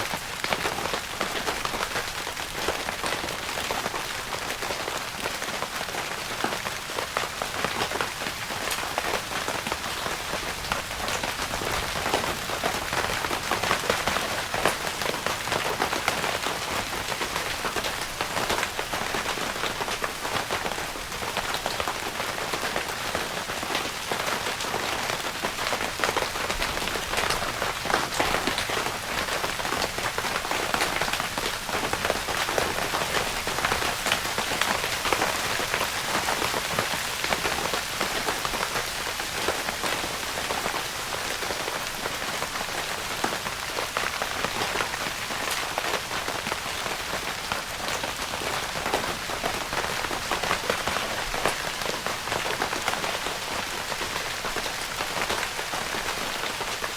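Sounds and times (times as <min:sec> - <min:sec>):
rain pattering on tent fabric: 0:00.0 - 0:56.9.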